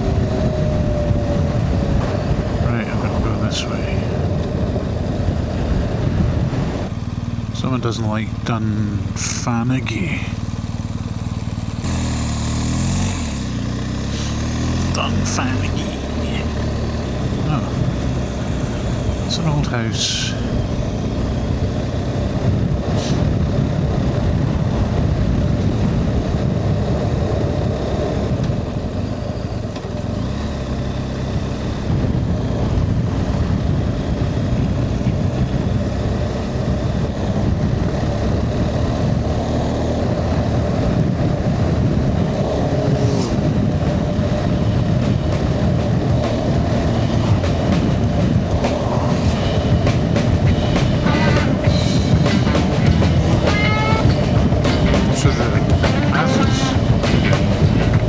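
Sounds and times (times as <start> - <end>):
motorcycle engine drone: 0.0 - 58.0
wind and road rush: 0.0 - 58.0.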